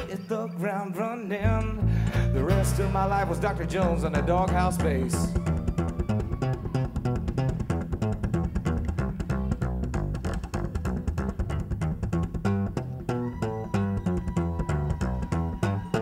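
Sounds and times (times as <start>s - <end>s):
acoustic guitar: 0.0s - 16.0s
plucked double bass: 1.5s - 16.0s.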